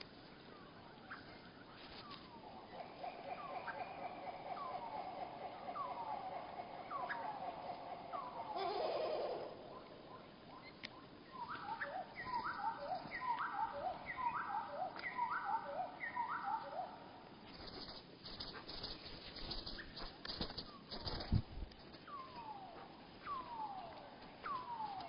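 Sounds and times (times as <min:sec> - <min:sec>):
slowed songbird calls: 0:00.0 - 0:17.8, 0:18.4 - 0:25.0.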